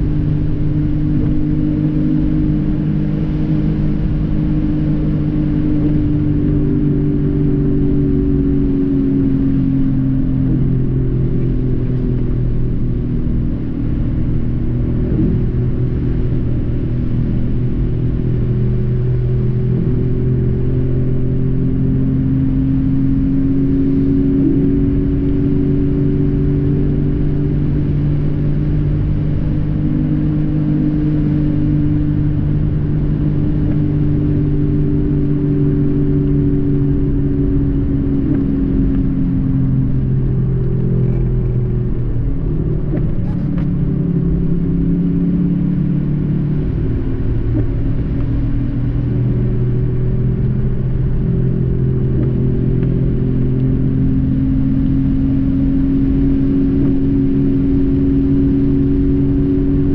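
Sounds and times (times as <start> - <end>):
car engine hum: 0.0 - 59.9
road rumble: 0.0 - 59.9.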